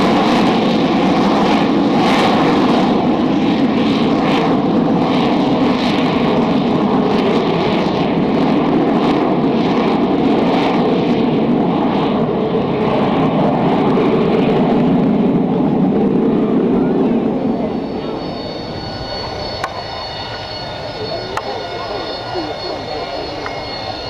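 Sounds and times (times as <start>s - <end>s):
jet engine running loud: 0.0s - 24.0s.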